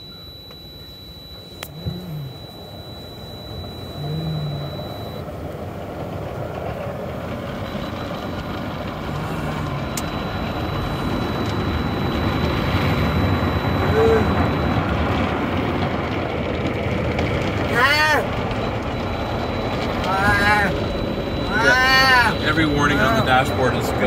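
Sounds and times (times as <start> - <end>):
car wash equipment rushing: 4.7 - 24.0.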